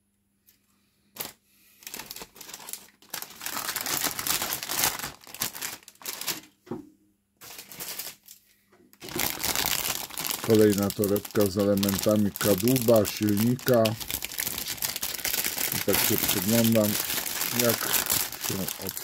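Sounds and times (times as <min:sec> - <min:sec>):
plastic bags crinkling: 0:01.2 - 0:06.5, 0:07.4 - 0:08.4, 0:09.0 - 0:19.0.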